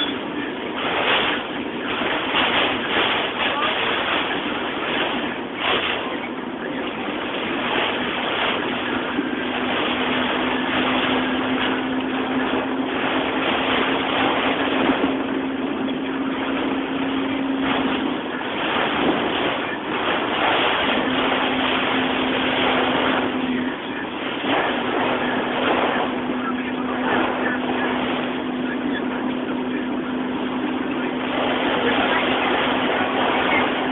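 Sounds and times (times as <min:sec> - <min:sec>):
heavy rain and wind on a car: 0:00.0 - 0:33.9
low steady hum: 0:00.0 - 0:33.9.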